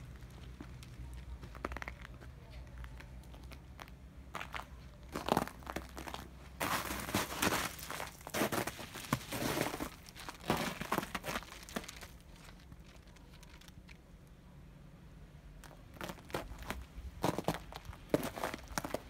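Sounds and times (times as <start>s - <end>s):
crunching and rustling: 0.0s - 14.3s, 15.6s - 19.0s.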